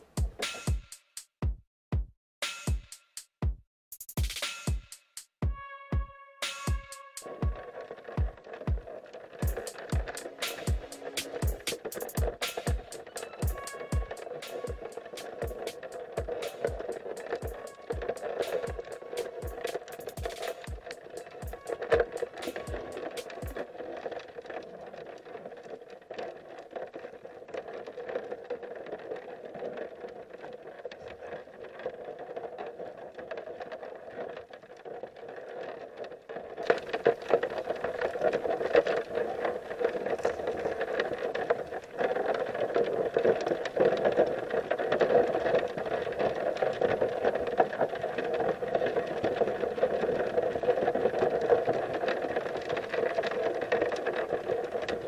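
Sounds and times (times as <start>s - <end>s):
fine crackling and clicking: 6.4s - 55.0s.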